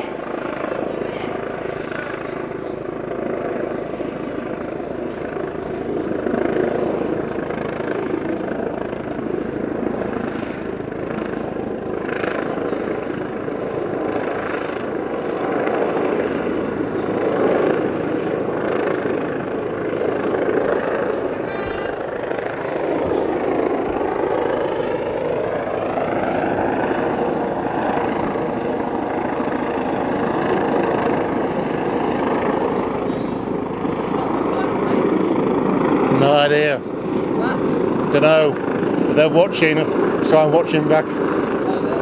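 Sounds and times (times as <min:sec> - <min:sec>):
helicopter hovering overhead: 0:00.0 - 0:42.0.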